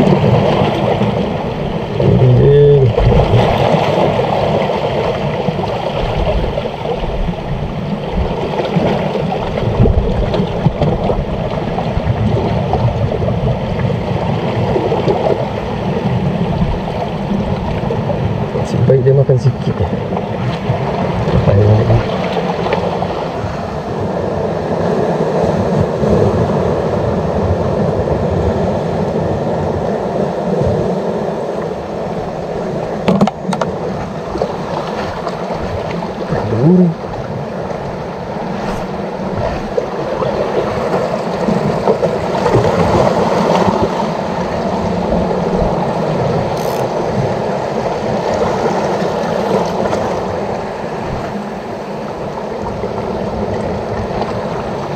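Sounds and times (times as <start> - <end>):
sea water washing on rocks: 0.0 - 54.9.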